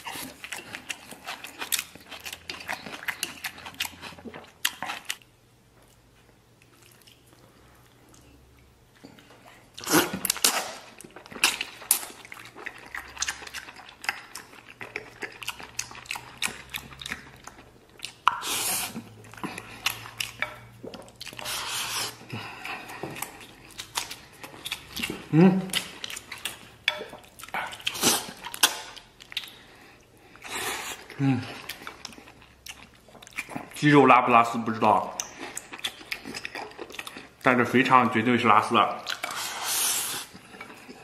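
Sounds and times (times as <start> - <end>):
wet chewing and smacking: 0.0 - 38.2, 38.9 - 41.0.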